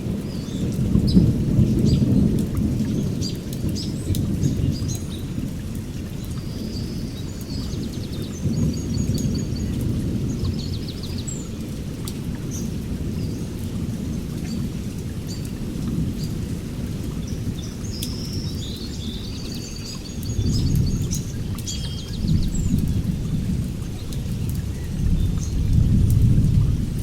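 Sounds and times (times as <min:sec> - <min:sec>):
songbirds chirping: 0:00.1 - 0:25.8.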